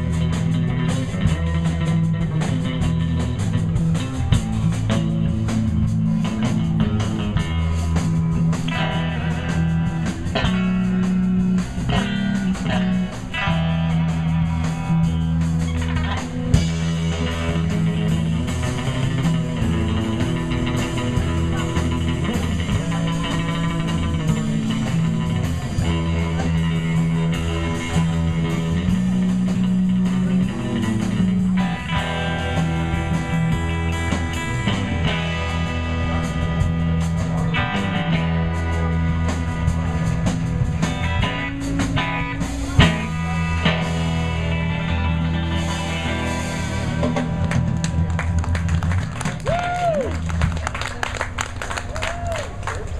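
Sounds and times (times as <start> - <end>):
band playing blues-rock: 0.0 - 52.9
bass line: 0.0 - 52.9
electric guitar: 0.0 - 52.9.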